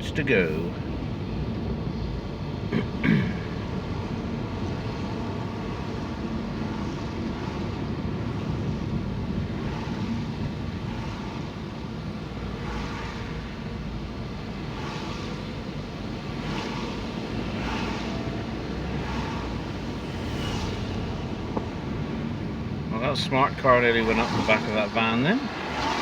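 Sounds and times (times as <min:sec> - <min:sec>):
road vehicle running noise: 0:00.0 - 0:26.0.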